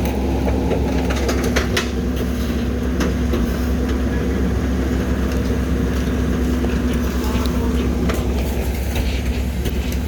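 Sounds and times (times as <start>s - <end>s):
garbage truck engine droning: 0.0s - 10.0s.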